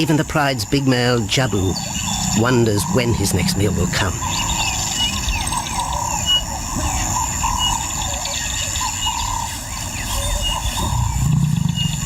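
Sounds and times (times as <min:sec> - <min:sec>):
birds calling: 0:00.0 - 0:12.0
high-pitched insect drone: 0:00.0 - 0:12.0.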